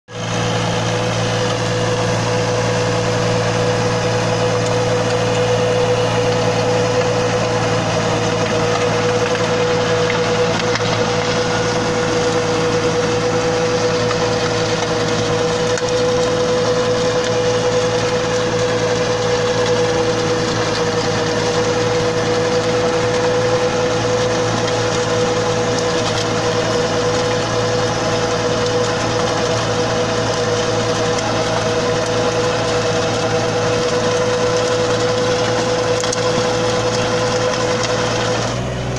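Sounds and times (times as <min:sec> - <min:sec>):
rotavator churning soil: 0:00.1 - 0:38.9
tractor engine under load: 0:00.1 - 0:38.9.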